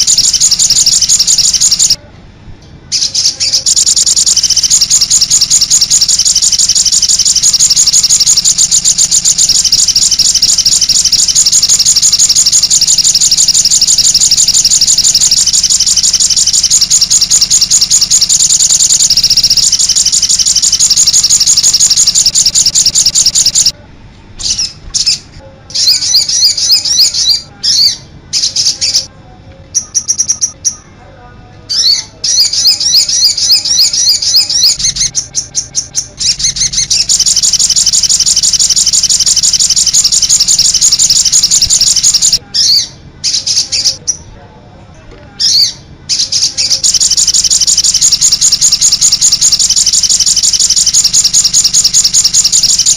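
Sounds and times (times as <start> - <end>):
high chattering birdsong: 0.0 - 2.0, 2.8 - 23.8, 24.4 - 29.1, 29.7 - 44.4, 45.4 - 52.9.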